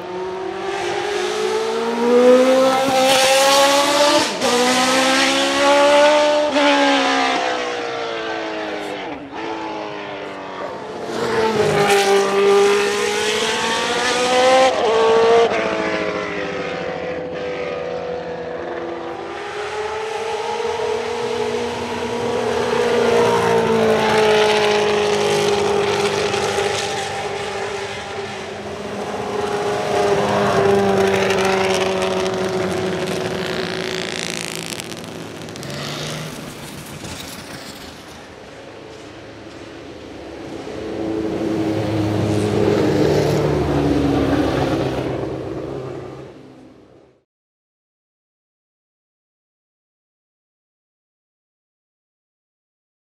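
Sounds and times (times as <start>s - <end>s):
racing car engine at full throttle: 0.0s - 47.2s.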